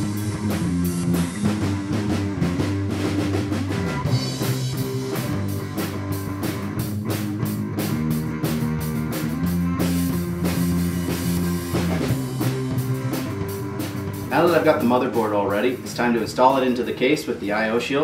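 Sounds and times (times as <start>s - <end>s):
rock music with drums bass and guitar: 0.0s - 18.0s.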